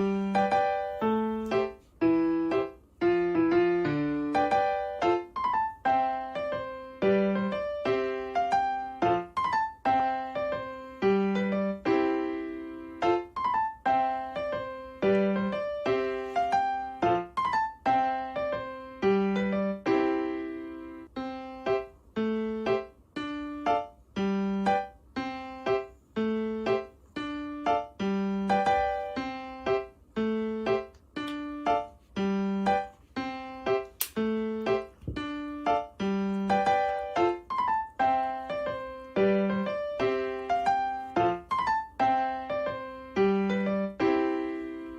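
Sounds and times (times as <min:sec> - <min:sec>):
light piano tune: 0:00.0 - 0:44.9.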